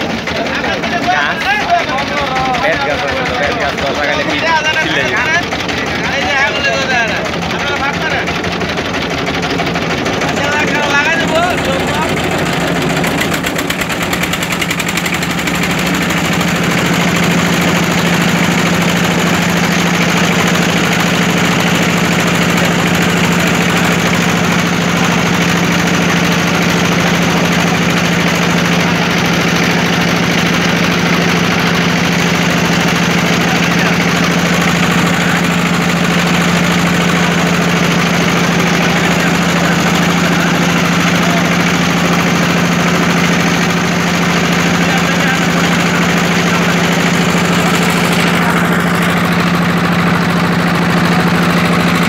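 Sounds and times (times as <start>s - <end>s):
boat engine humming: 0.0s - 52.0s.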